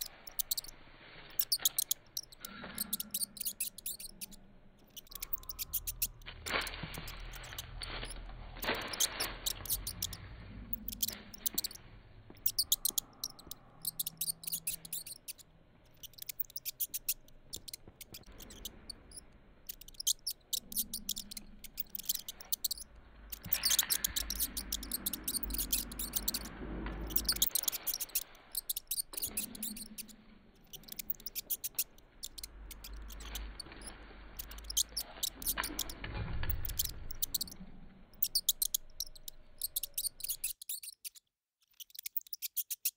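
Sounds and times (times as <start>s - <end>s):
rat squeaking: 0.0s - 42.9s.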